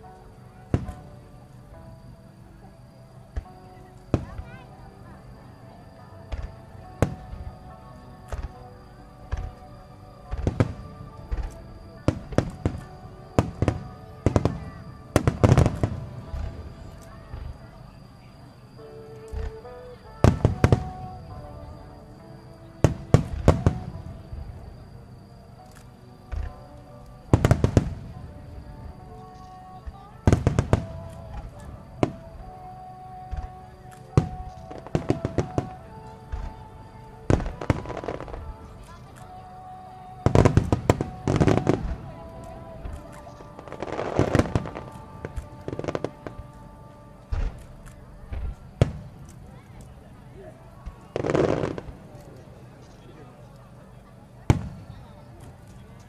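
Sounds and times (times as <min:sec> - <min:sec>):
music: 0:00.0 - 0:56.0
fireworks bursting: 0:06.2 - 0:39.4, 0:40.1 - 0:50.0, 0:50.7 - 0:53.0, 0:54.4 - 0:56.0.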